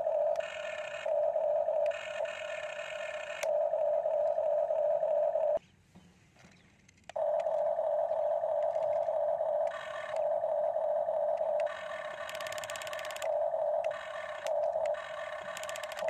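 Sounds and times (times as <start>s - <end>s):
toy excavator motors whining: 0.0s - 5.6s, 6.9s - 16.0s.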